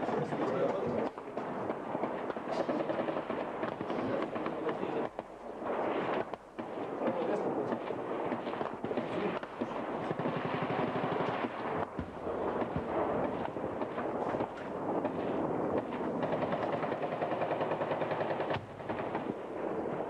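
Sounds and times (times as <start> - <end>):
heavy bangs: 0.0 - 20.0
rifle and machine gun fire: 0.0 - 20.0.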